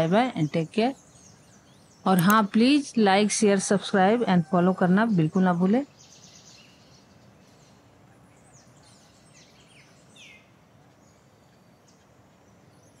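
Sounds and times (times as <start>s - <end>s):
faint birds chirping: 0.0s - 13.0s
low background hiss: 0.0s - 13.0s.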